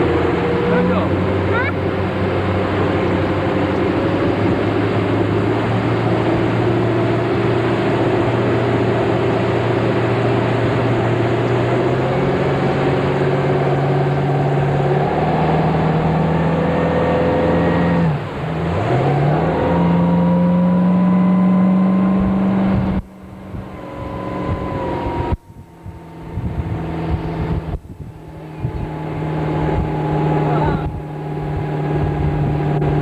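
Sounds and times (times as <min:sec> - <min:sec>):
motorboat engine running: 0:00.0 - 0:33.0
rushing water noise: 0:00.0 - 0:33.0.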